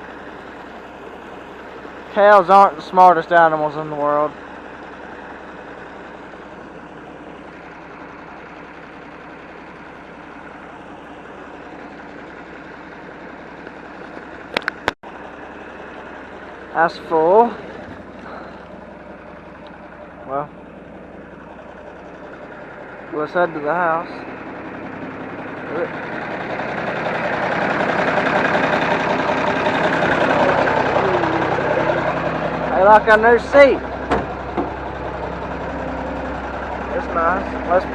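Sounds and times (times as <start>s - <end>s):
tractor diesel engine idling: 0.0s - 37.9s.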